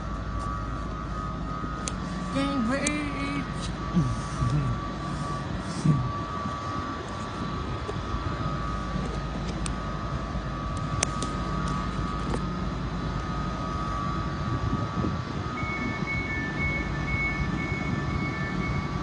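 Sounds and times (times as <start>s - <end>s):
thin high whine: 0.0s - 19.0s
train idling hum and rumble: 0.0s - 19.0s.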